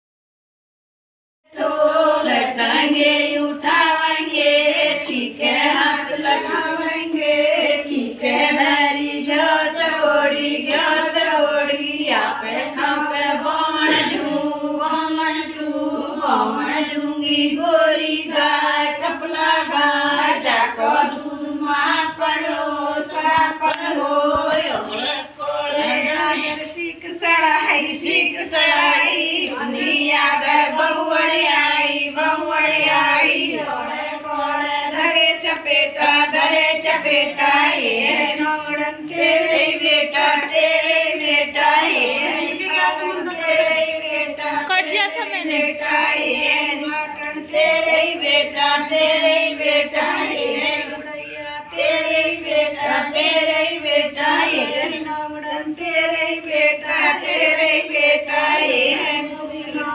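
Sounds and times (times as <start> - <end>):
women singing in unison: 1.5 - 59.9.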